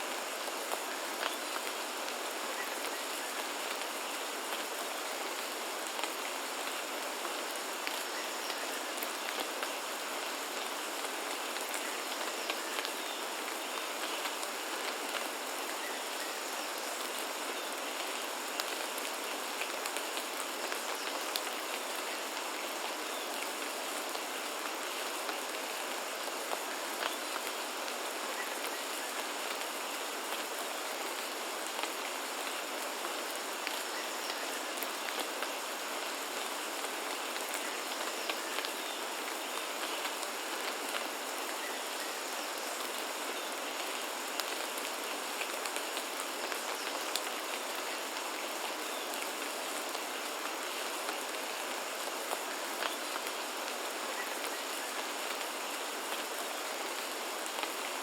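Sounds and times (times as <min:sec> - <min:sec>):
rain pattering: 0:00.1 - 0:58.0.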